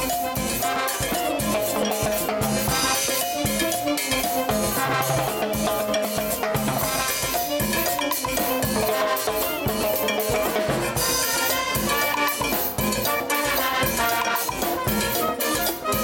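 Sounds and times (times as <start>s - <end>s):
brass band playing: 0.0s - 16.0s
drums and percussion beat: 0.0s - 16.0s.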